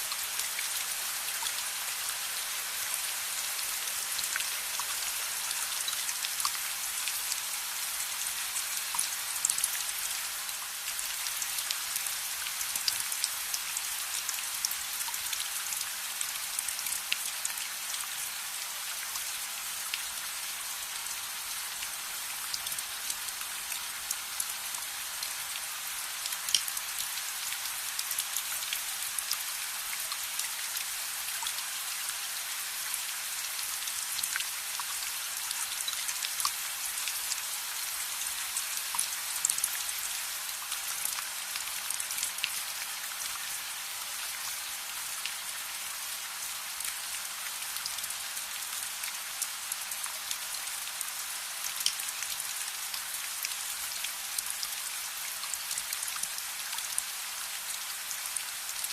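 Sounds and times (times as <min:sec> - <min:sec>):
rain drops ticking and popping: 0:00.0 - 0:58.9
steady rain falling: 0:00.0 - 0:58.9.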